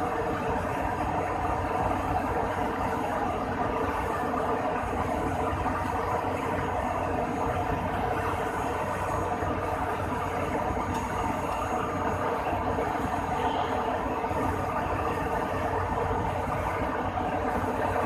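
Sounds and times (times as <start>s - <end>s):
aircraft engines running: 0.0s - 18.0s
faint steady tones: 0.0s - 18.0s.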